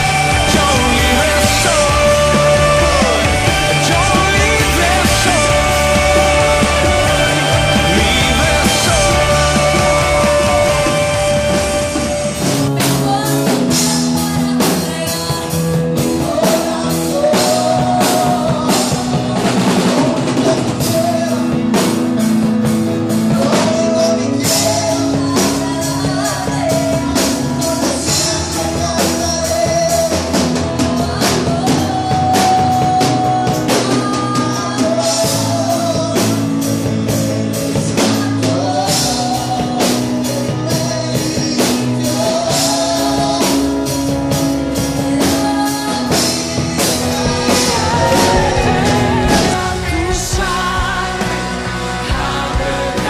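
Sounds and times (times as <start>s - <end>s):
drum kit beat: 0.0s - 53.0s
guitar: 0.0s - 53.0s
person singing into microphone: 0.0s - 53.0s.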